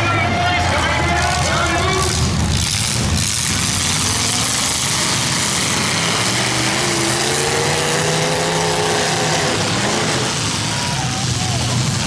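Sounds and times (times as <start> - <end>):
car engines running hard: 0.0 - 12.0
engine revving: 2.0 - 12.0.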